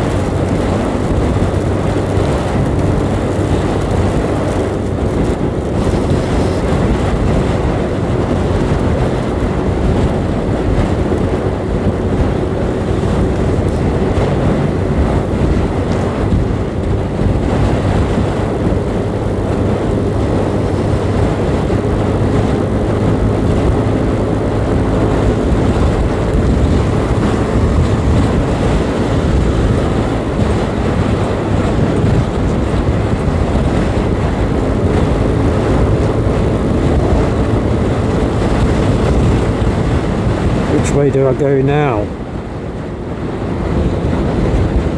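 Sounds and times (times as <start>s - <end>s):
faint motorcycle engine drone: 0.0s - 44.9s
wind rush and road noise: 0.0s - 44.9s.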